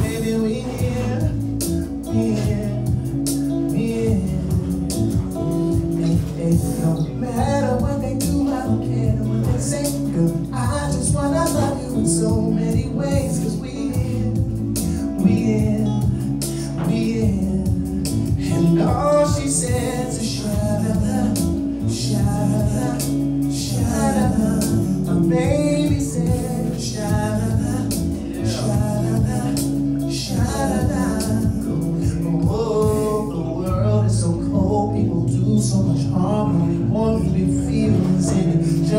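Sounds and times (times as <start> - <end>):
instrumental backing: 0.0 - 38.9
man singing into microphone: 0.0 - 38.9.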